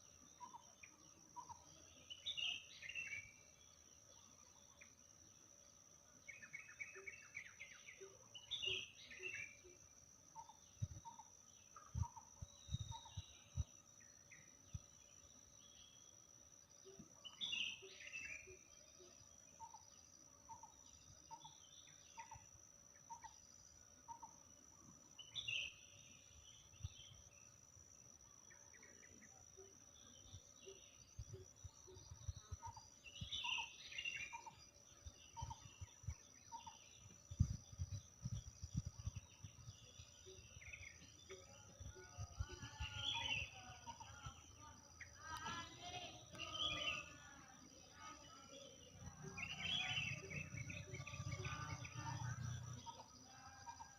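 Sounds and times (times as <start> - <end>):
birds singing: 0.0 - 5.0, 6.0 - 16.2, 16.9 - 53.9
high insect drone: 0.0 - 53.9.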